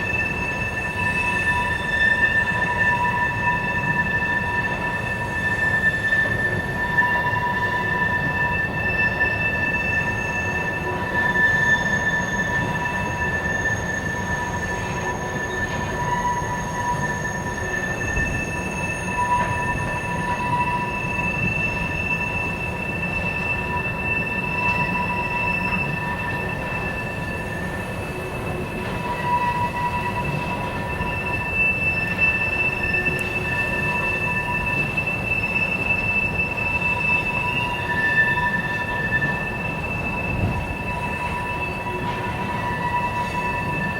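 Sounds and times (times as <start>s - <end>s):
freight train rumbling past: 0.0s - 43.9s
train wheels squealing: 0.0s - 43.9s.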